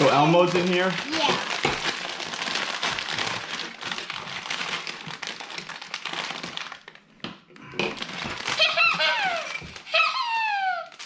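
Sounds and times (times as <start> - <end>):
plastic bag crinkling: 0.0 - 7.0, 7.8 - 11.0.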